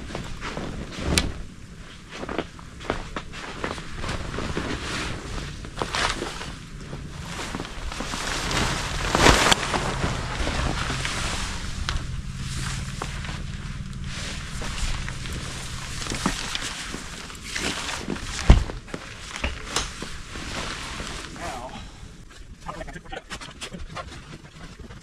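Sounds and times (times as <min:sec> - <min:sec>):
fabric cover rustling and flapping: 0:00.0 - 0:22.6.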